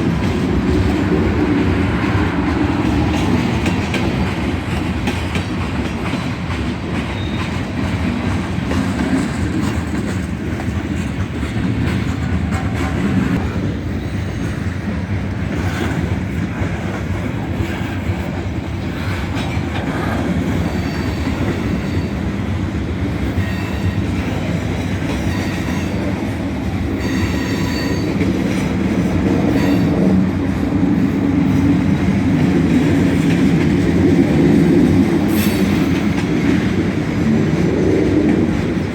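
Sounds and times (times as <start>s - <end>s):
freight train rumbling past: 0.0s - 38.9s
wheels clacking over rail joints: 0.0s - 38.9s.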